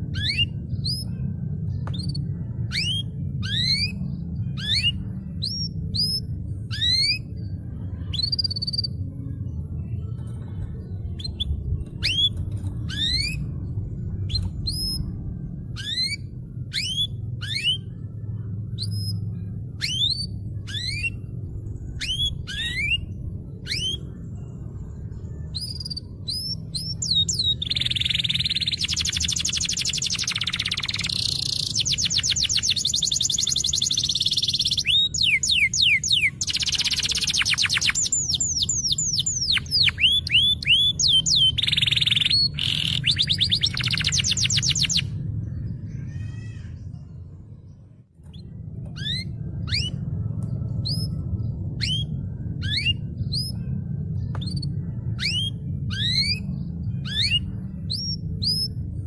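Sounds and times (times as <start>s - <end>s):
canary singing: 0.0s - 9.1s, 10.2s - 46.9s, 48.2s - 59.0s
steady low hum: 0.0s - 59.0s.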